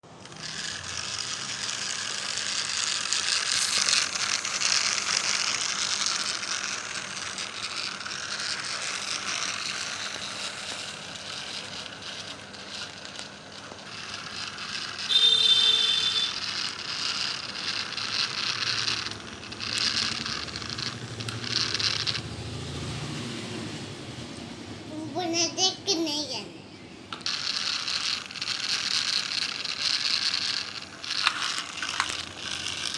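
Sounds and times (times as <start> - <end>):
toy train clicking rattle: 0.0 - 23.0, 24.9 - 26.5, 27.1 - 32.9.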